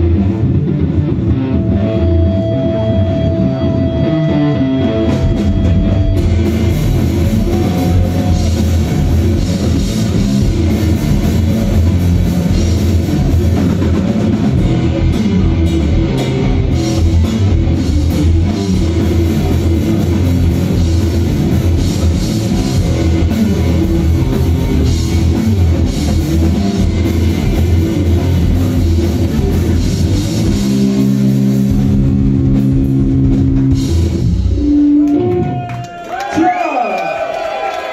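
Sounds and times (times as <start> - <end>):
drum kit: 0.0 - 35.7
bass guitar: 0.0 - 36.4
electric guitar: 0.0 - 36.4.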